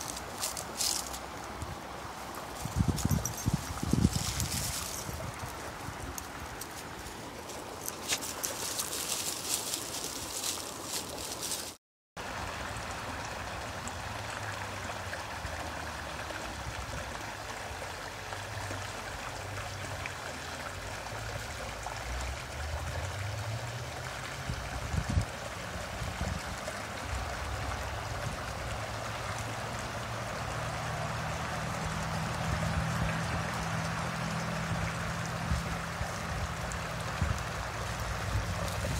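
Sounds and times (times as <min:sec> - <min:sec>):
brook flowing over rocks: 0:00.0 - 0:38.9.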